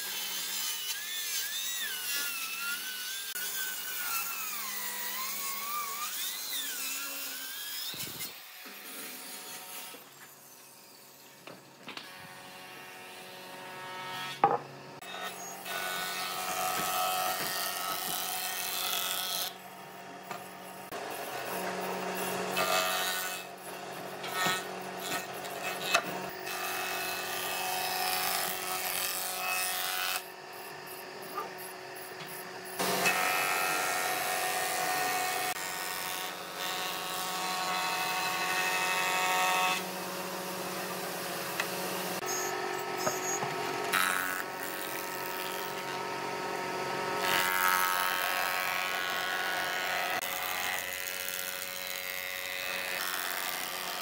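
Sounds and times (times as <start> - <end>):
cutter head planing wood: 0.0 - 54.0.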